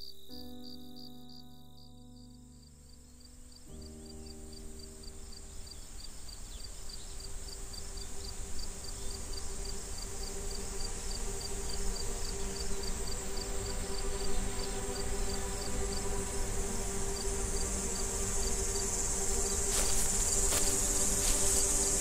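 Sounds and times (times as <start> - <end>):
crickets chirping: 0.0 - 22.0
high insect hiss: 0.0 - 22.0
soft sustained music tones: 0.0 - 22.0.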